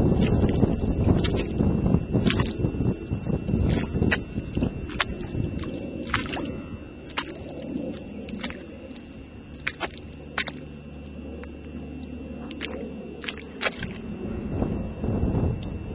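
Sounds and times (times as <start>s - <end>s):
boots squelching through water: 0.0s - 14.1s
low steady rumble: 0.0s - 15.9s.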